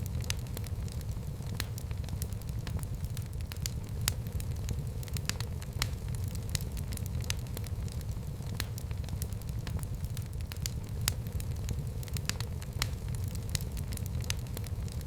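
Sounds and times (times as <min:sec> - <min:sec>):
fire crackling and popping: 0:00.0 - 0:15.0
low rumble of flame: 0:00.0 - 0:15.0.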